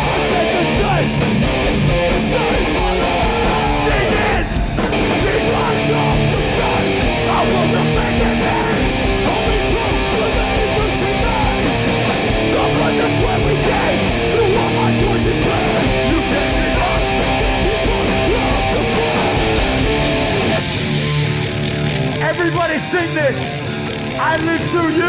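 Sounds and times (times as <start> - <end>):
distorted electric guitars: 0.0 - 25.0
punk band playing live: 0.0 - 25.0.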